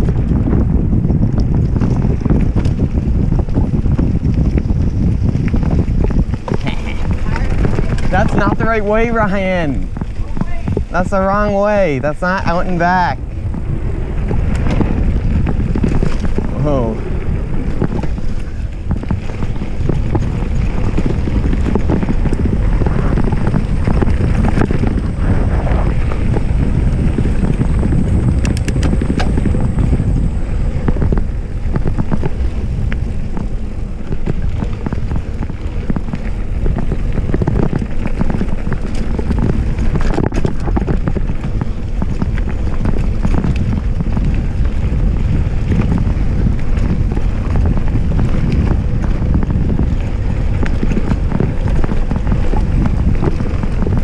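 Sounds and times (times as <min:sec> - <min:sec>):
bike tyres rolling over dirt: 0:00.0 - 0:54.0
wind on microphone: 0:00.0 - 0:54.0.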